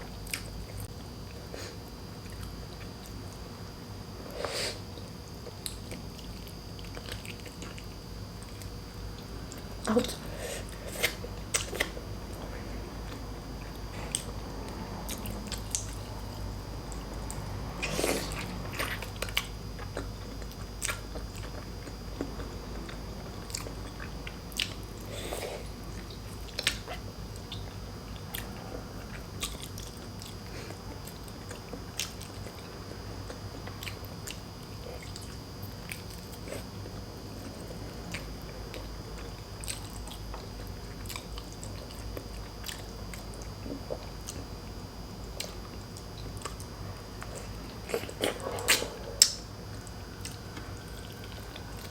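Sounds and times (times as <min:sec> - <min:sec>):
chewing and biting food: 0:04.9 - 0:51.9.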